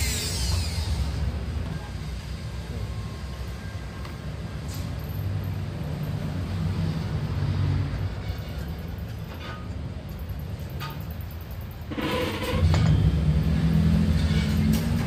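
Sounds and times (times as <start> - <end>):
workshop machinery drone: 0.0 - 15.0.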